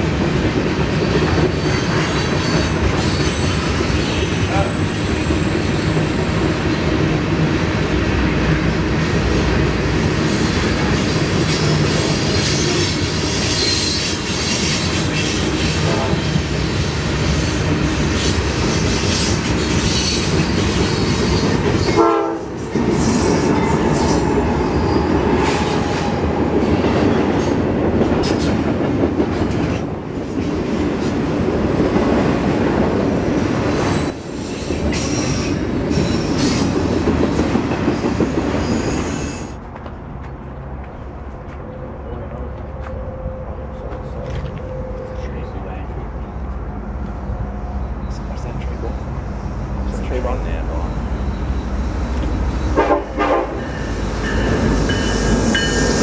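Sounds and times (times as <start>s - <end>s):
train wheels clattering on rails: 0.0s - 6.9s, 9.1s - 43.0s, 50.0s - 56.0s.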